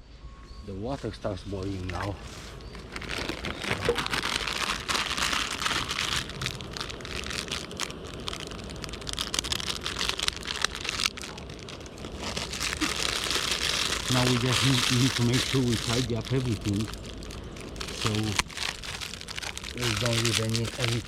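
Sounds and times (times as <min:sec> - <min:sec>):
kettle hissing: 0:01.5 - 0:21.0
crackles and pops of heating water: 0:01.8 - 0:21.0.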